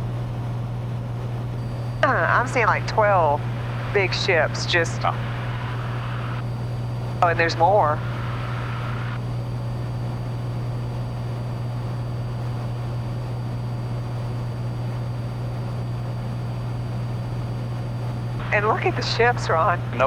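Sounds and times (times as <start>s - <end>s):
light aircraft engine cabin hum: 0.0s - 20.0s.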